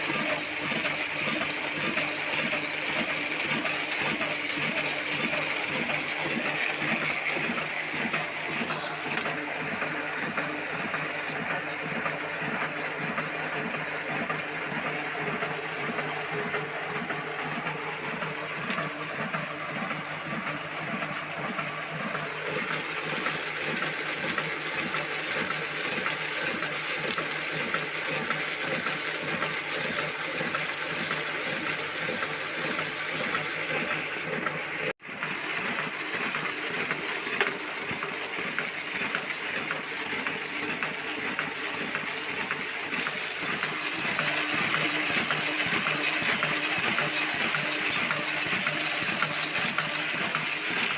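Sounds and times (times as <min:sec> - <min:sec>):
printing machine running: 0:00.0 - 0:50.9.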